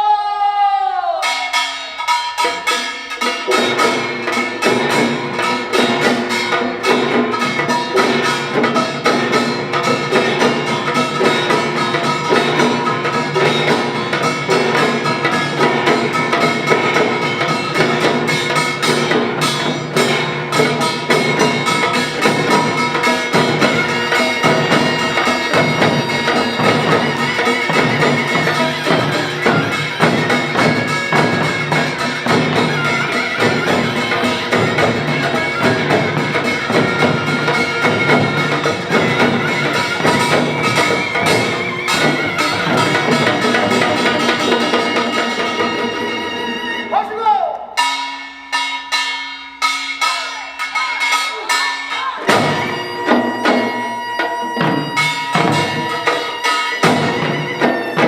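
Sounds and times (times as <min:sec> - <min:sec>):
fast dense percussion: 0:01.2 - 0:58.0
steady held notes: 0:01.5 - 0:47.2, 0:47.8 - 0:58.0.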